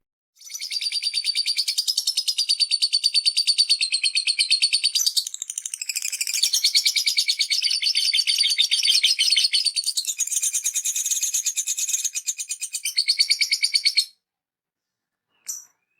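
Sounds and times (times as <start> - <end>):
parrot chirping rapidly: 0.4 - 14.1.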